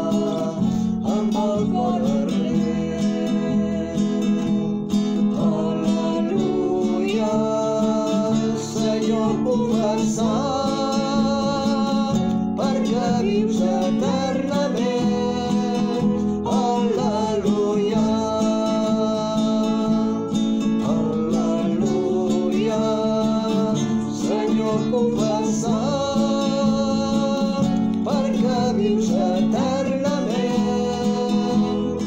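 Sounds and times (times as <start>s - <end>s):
acoustic guitar: 0.0s - 32.0s
people singing a hymn: 0.0s - 32.0s.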